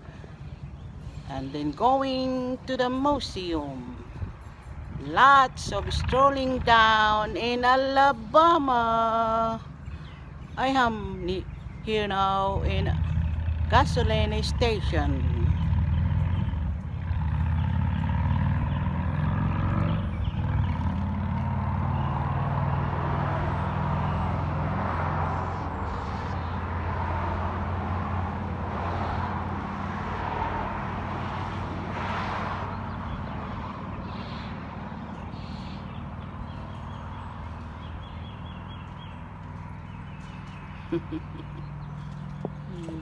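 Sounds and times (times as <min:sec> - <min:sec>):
road noise: 0:00.0 - 0:43.0
vehicle engine humming: 0:00.0 - 0:43.0.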